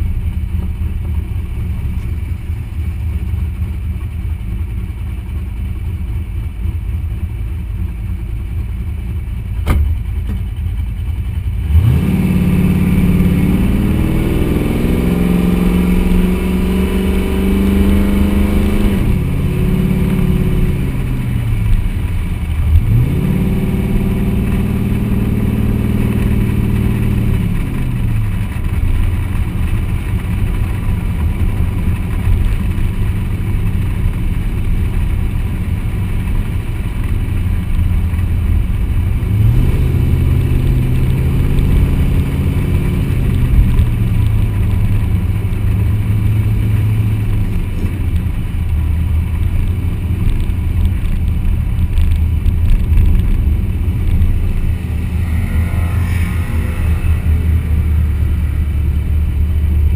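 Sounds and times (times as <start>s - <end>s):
car engine and exhaust: 0.0s - 59.9s
road and wind noise: 0.0s - 59.9s.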